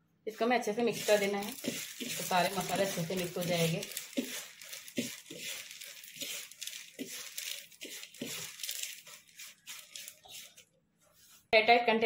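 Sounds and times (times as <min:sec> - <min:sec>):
fried lentils rattling on a plate: 0:00.9 - 0:10.6.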